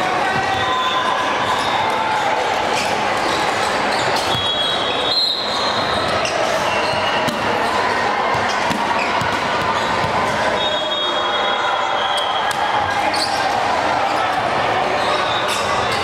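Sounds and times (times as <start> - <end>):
voices in hall: 0.0 - 16.0.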